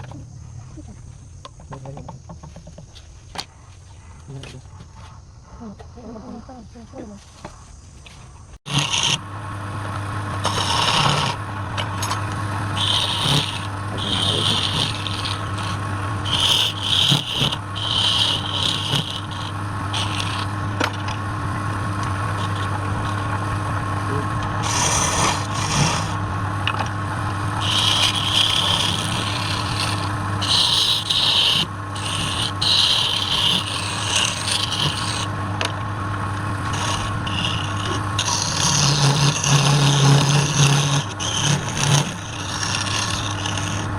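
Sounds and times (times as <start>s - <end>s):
turning tool cutting spinning wood: 8.6s - 43.9s
lathe motor hum: 8.7s - 43.9s.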